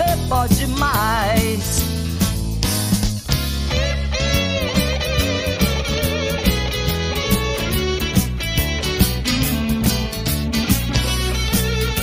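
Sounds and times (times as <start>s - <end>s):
instrumental rock music: 0.0s - 12.0s.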